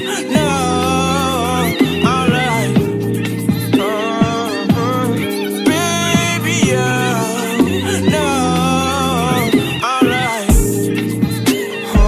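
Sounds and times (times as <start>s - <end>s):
person singing over a beat: 0.0s - 12.0s.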